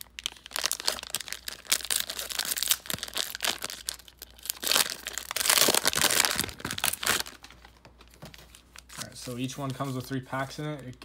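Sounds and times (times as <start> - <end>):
cellophane wrapper crinkling and tearing: 0.0 - 10.2.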